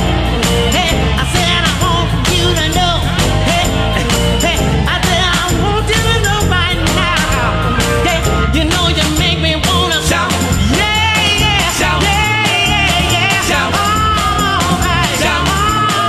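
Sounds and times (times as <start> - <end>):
upbeat song with band: 0.0 - 16.0.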